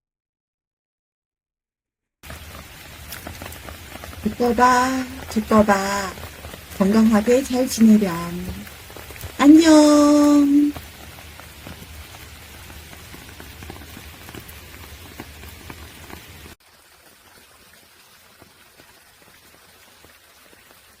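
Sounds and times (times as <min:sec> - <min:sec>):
light rain falling: 0:02.2 - 0:21.0.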